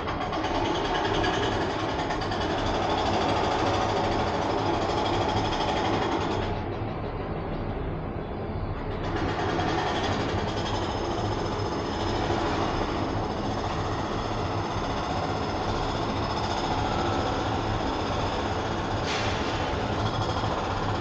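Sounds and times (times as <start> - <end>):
cable car mechanical rumble: 0.0 - 21.0.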